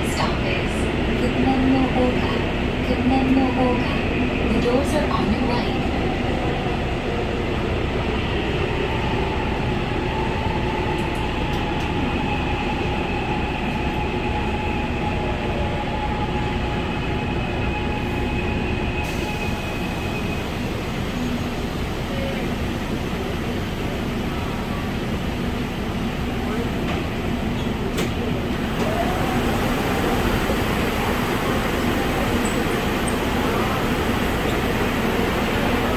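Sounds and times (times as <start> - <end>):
subway train wheels rumbling: 0.0 - 35.9.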